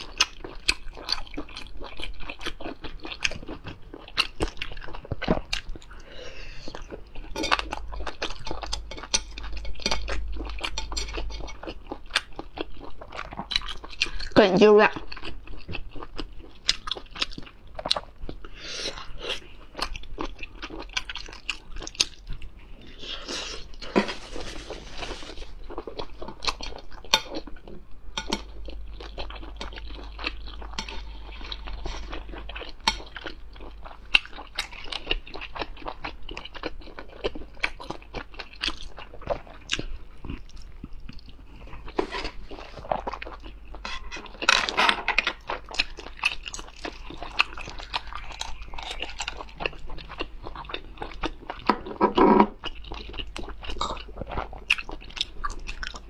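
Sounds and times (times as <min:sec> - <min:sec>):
person chewing: 0:00.0 - 0:14.4, 0:15.0 - 0:56.0.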